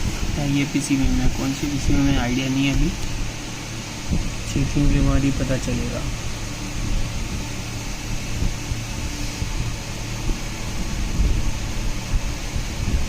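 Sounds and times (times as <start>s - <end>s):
even hiss: 0.0s - 13.0s
steady whirring: 0.0s - 13.0s.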